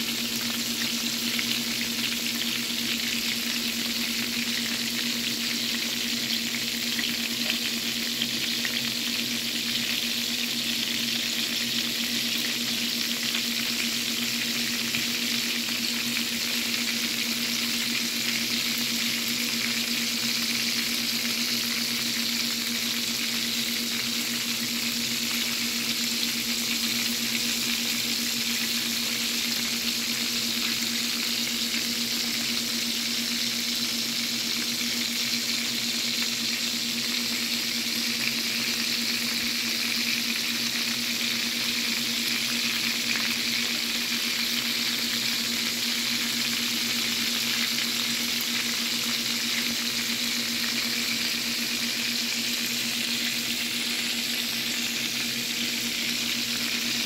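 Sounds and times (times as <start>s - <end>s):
pork chops sizzling in oil: 0.0s - 57.0s.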